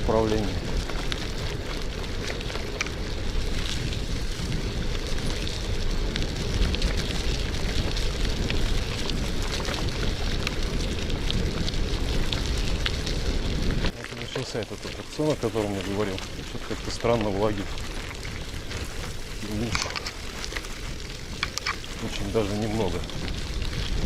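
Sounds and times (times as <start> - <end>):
bicycle tyres on wet dirt: 0.0 - 24.0
small clicks and crackles: 0.0 - 24.0
wind rumbling on microphone: 0.0 - 24.0.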